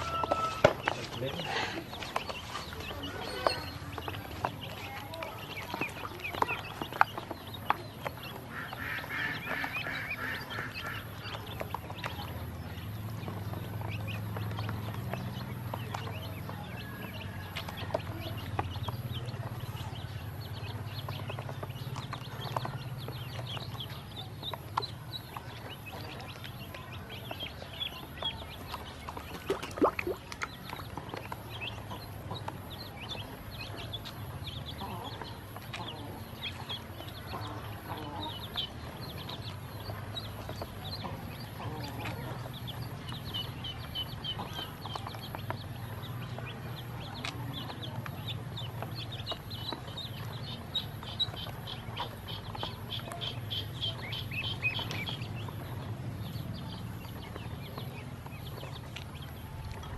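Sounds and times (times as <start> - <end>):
ducklings peeping: 0.0 - 59.9.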